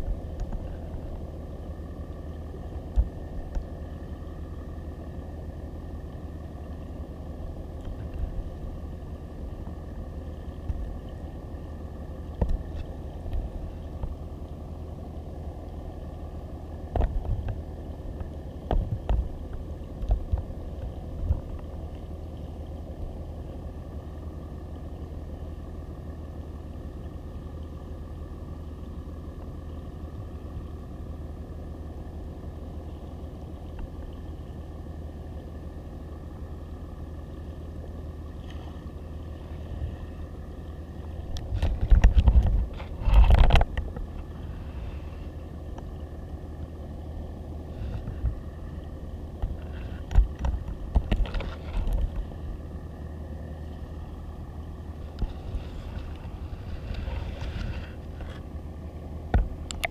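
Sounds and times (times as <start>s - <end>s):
muffled underwater rumble: 0.0s - 59.9s.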